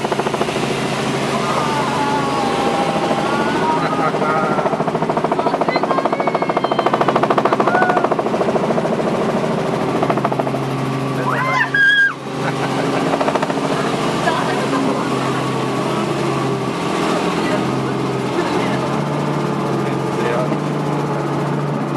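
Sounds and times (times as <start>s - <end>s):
helicopter engine hum: 0.0s - 21.9s
helicopter rotor beating: 0.0s - 21.9s.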